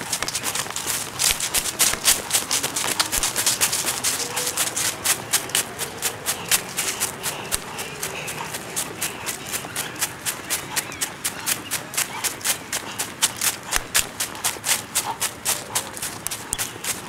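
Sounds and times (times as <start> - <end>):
running footsteps on path and grass: 0.0 - 17.0.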